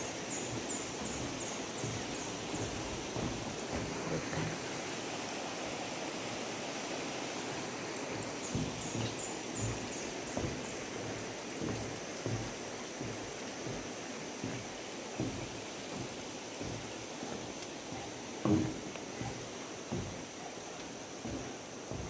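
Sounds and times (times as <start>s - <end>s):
footsteps on bridge deck: 0.0s - 5.4s, 6.1s - 22.0s
shallow river rushing: 0.0s - 22.0s.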